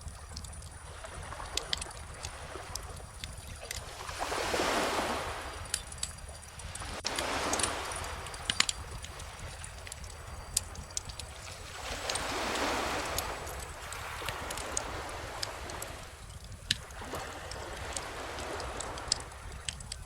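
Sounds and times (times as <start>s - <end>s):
wood fire crackling: 0.0s - 3.9s, 5.4s - 20.0s
ocean waves washing in: 3.7s - 19.8s.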